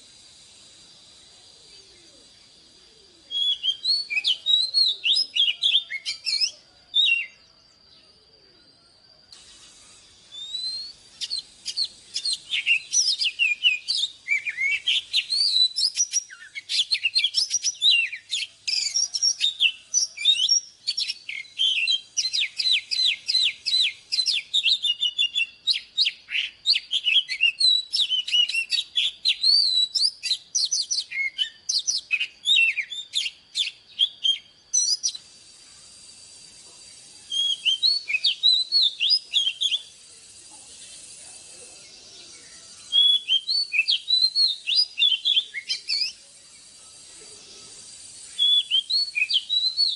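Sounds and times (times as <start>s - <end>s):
bird singing whistles and trills: 0.0s - 49.9s.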